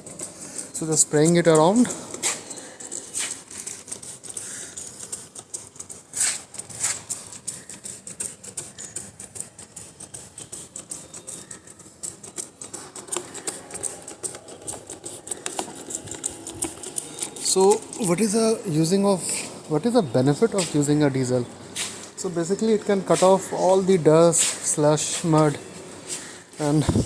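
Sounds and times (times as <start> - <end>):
spray bottle spritzing: 2.1 - 18.5, 21.7 - 27.0.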